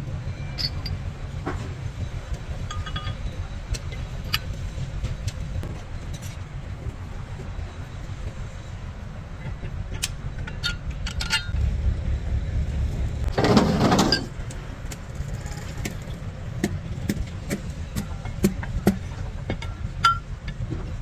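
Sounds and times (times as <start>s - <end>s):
noisy rush: 0.0s - 21.0s
steady low rumble: 0.0s - 21.0s.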